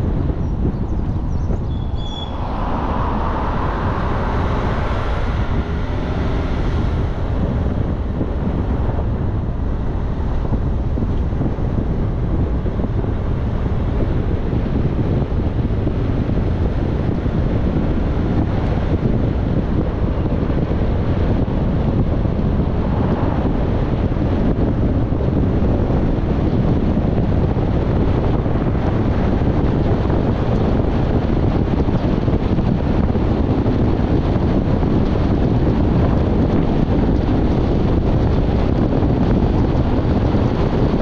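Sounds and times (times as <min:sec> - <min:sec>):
bus road noise: 0:00.0 - 0:41.0
wind buffeting microphone: 0:00.0 - 0:41.0.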